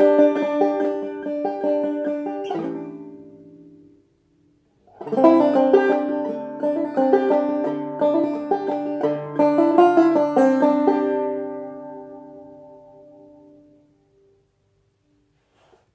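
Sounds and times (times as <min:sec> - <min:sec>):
banjo plucked notes: 0:00.0 - 0:04.0, 0:04.8 - 0:13.9.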